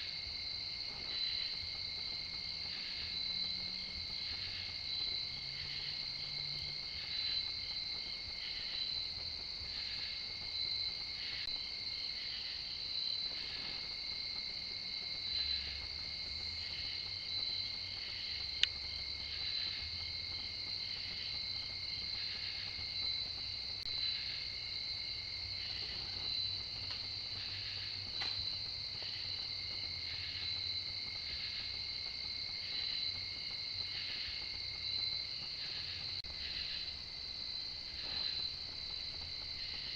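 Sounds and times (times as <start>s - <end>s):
crickets trilling: 0.0s - 39.9s
low continuous insect tone: 0.0s - 39.9s.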